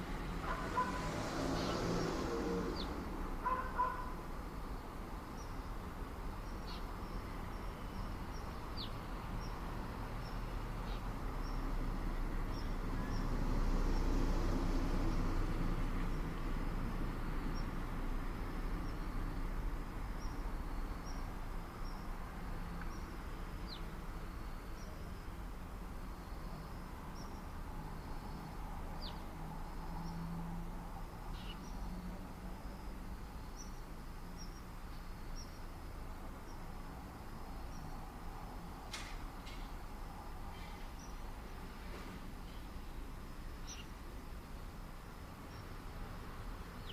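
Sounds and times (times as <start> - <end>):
distant traffic rumble: 0.0 - 46.9.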